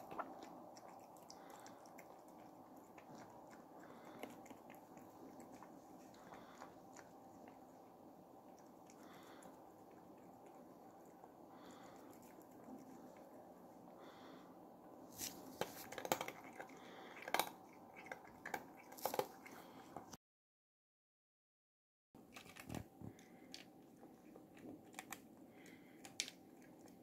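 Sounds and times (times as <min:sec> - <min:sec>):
cat chewing and crunching: 0:00.0 - 0:20.2, 0:22.2 - 0:27.0.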